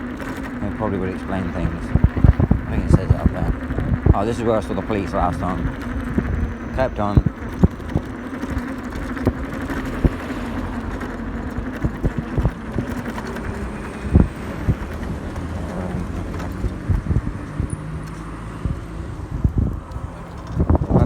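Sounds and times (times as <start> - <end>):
wind and tyre noise: 0.0 - 21.0.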